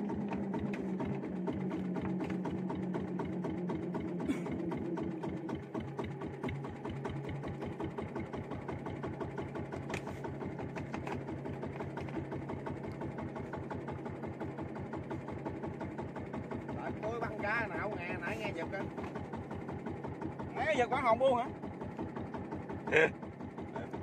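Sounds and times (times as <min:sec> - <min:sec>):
small boat engine running: 0:00.0 - 0:24.0.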